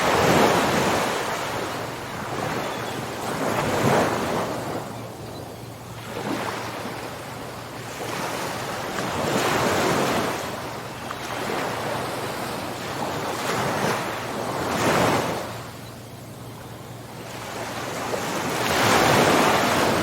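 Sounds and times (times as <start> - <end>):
ocean waves breaking on shore: 0.0 - 20.0.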